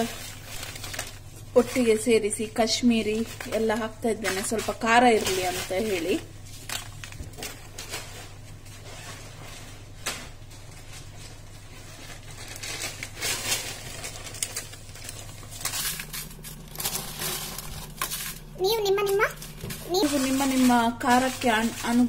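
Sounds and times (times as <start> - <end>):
chillies crackling in a pan: 0.0 - 22.0
chillies rustling when tossed: 0.0 - 22.0
steady low hum: 0.0 - 22.0.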